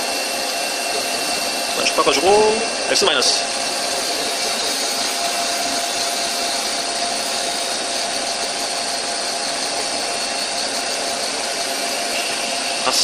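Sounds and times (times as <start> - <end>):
lathe cutting workpiece: 0.0 - 13.0.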